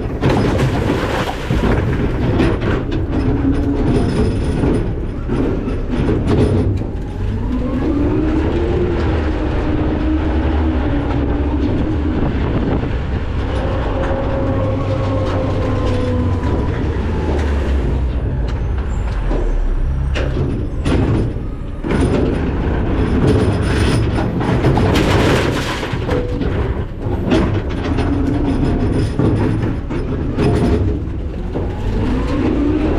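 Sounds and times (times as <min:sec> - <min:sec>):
garbage truck engine rumble: 0:00.0 - 0:32.9.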